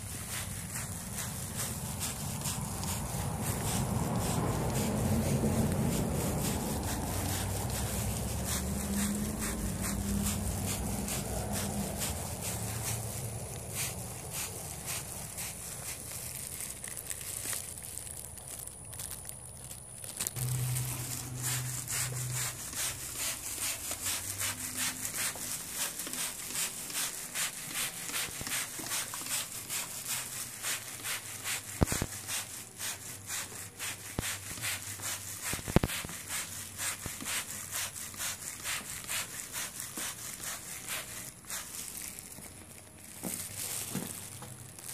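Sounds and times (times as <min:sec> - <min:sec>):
spray bottle hissing: 0:00.0 - 0:15.8, 0:20.4 - 0:41.7.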